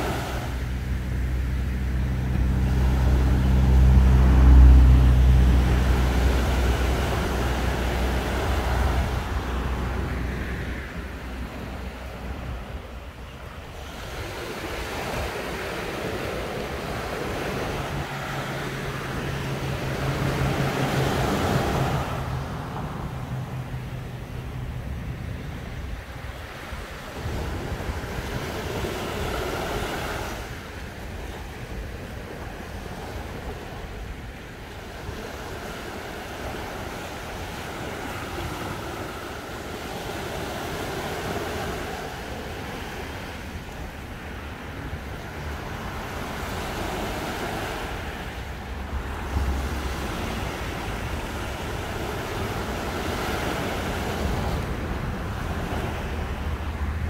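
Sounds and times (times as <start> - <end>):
small surf lapping on sand: 0.0 - 24.4, 25.2 - 57.0
wind rumble on microphone: 0.0 - 57.0.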